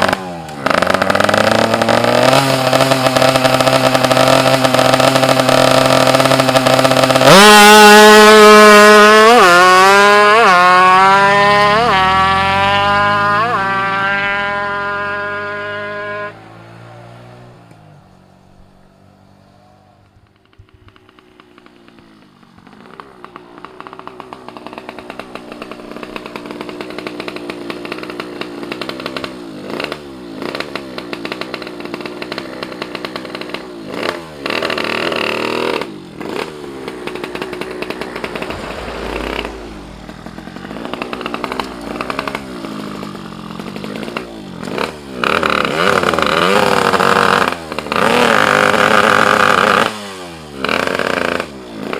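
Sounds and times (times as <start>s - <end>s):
two-stroke motorcycle engine revving: 0.0s - 17.8s, 20.1s - 51.9s.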